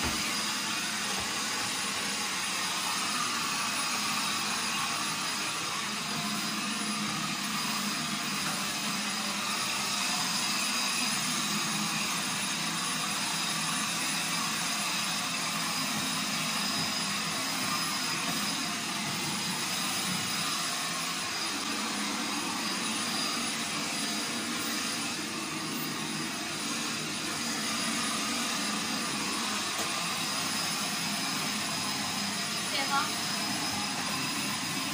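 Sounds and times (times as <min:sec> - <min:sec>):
stick vacuum cleaner running: 0:00.0 - 0:34.9.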